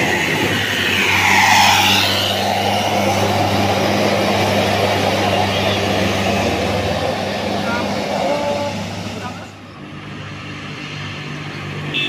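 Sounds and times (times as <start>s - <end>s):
bus driving past: 0.0s - 11.9s.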